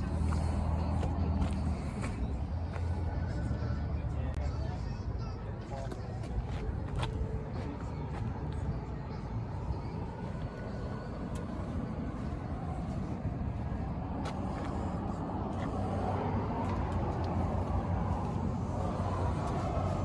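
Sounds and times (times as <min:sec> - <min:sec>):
car engine rumbling: 0:00.0 - 0:04.3, 0:05.2 - 0:20.0.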